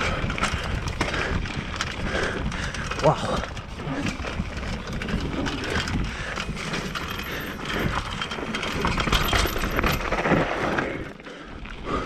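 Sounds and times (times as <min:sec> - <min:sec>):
bike rattling over stones: 0:00.0 - 0:12.0
tyre and wind rush: 0:00.0 - 0:12.0.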